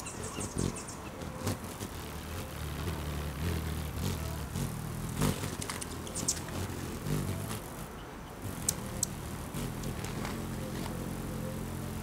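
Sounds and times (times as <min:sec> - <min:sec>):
hummingbird chips: 0:00.0 - 0:12.0
steady low hum: 0:00.0 - 0:12.0.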